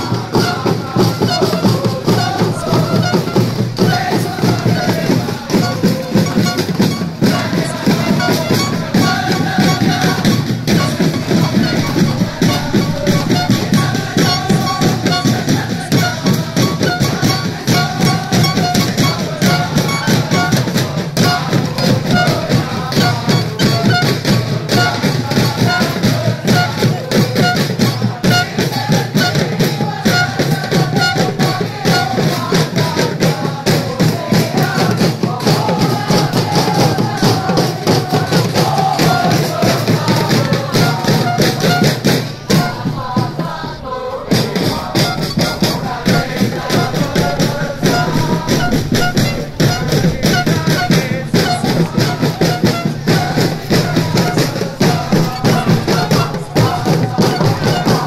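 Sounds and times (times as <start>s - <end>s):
crowd singing in unison: 0.0s - 58.0s
drums and hand percussion: 0.0s - 58.0s.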